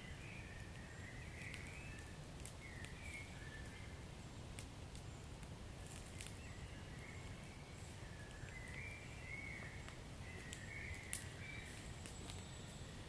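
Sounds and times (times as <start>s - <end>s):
wood fire crackling and popping: 0.0s - 6.6s, 7.2s - 12.9s
low fire rumble: 0.0s - 13.0s.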